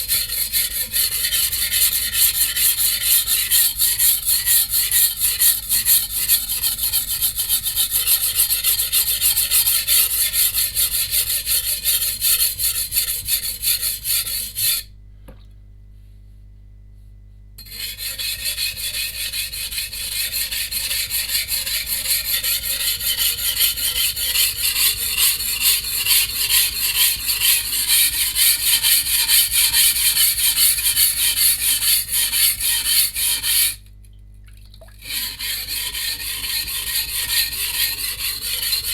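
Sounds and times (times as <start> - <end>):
cleaver scraping on whetstone: 0.0 - 14.9, 17.6 - 33.8, 35.0 - 38.9.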